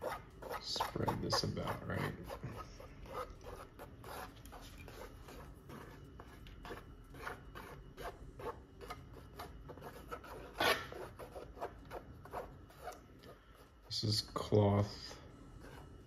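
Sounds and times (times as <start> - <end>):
straw scraping wet paint on canvas: 0.0 - 14.5.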